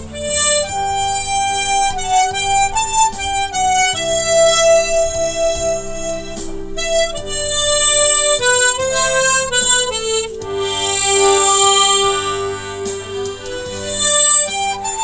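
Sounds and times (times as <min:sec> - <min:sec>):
backing accompaniment: 0:00.0 - 0:15.0
harmonica slow melody: 0:00.0 - 0:15.0.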